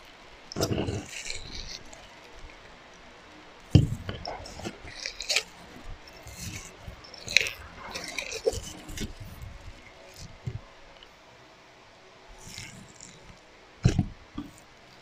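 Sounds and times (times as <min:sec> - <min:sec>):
slime squelching and crackling: 0:00.5 - 0:11.1, 0:12.3 - 0:15.0.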